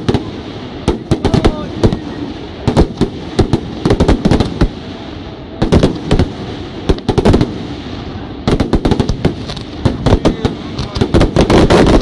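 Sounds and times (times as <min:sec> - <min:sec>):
fireworks bursting: 0:00.0 - 0:12.0
steady background noise: 0:00.0 - 0:12.0.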